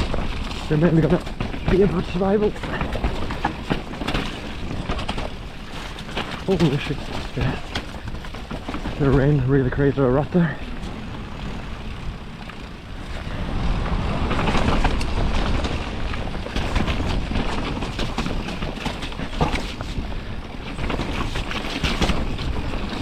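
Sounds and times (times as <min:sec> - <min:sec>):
bike rattling on rough ground: 0:00.0 - 0:23.0
wind and rain buffeting microphone: 0:00.0 - 0:23.0.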